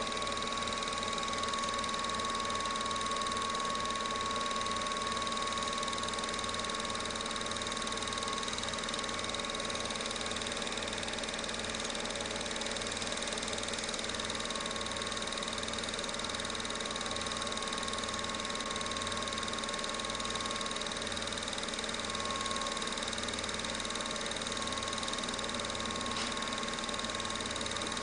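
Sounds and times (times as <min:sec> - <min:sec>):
film projector whirring: 0:00.0 - 0:28.0.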